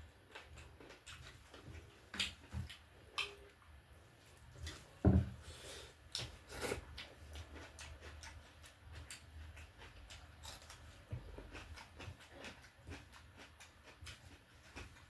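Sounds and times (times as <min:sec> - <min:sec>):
person chewing with mouth clicks: 0:00.0 - 0:03.7, 0:06.1 - 0:15.0.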